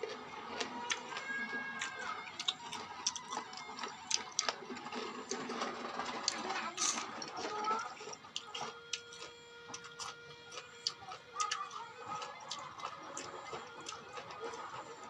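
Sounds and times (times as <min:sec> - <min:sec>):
chewing crunchy fruit: 0:00.0 - 0:15.0.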